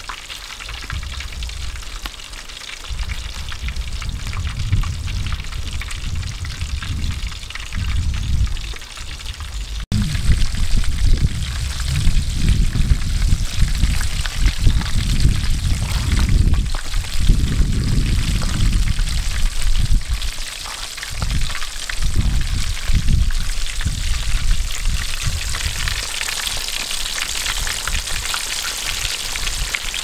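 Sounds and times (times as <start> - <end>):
crackling breadcrumbs: 0.0 - 30.0
wind rumble on microphone: 0.6 - 2.0, 2.8 - 26.6, 27.3 - 30.0.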